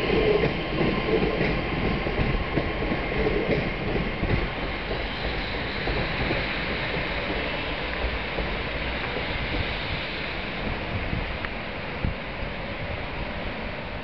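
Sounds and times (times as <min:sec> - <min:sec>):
low rumble of distant trains: 0:00.0 - 0:14.0
wind noise on microphone: 0:00.0 - 0:14.0.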